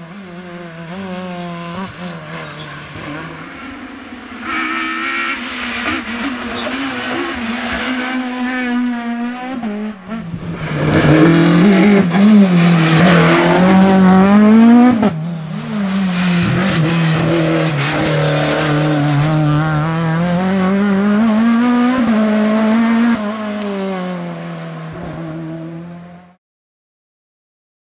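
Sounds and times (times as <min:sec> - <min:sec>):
rally car engine revving: 0:00.0 - 0:26.4.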